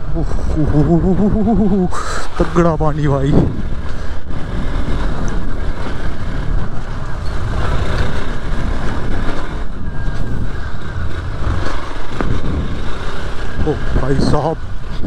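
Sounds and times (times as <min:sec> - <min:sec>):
motorcycle engine running: 0:00.0 - 0:15.0
wind and rain rushing: 0:00.0 - 0:15.0.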